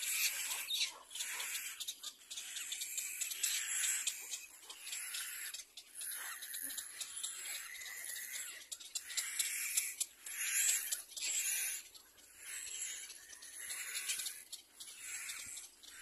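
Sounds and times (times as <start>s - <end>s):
chicks giving wheezy begging calls: 0.0s - 16.0s
hissing bird call: 0.0s - 16.0s.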